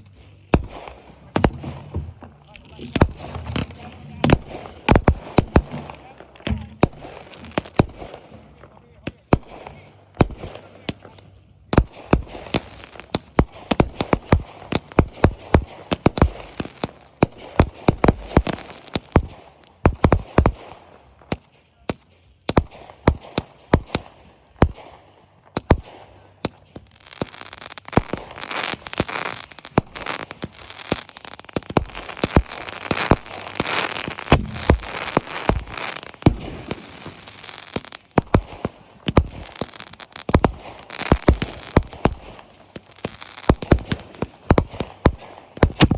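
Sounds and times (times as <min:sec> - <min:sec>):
fireworks bangs: 0:00.0 - 0:45.9
fireworks crackling: 0:00.0 - 0:45.9.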